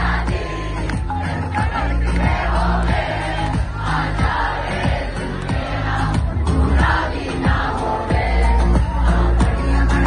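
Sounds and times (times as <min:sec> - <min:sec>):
live band playing loudly: 0:00.0 - 0:10.0.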